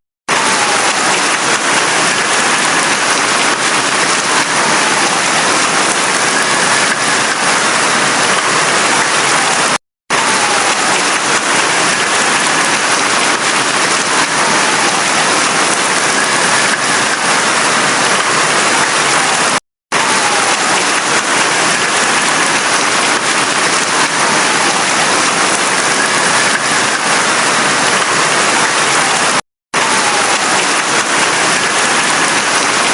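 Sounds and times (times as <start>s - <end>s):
heavy rain hissing: 0.3s - 32.9s.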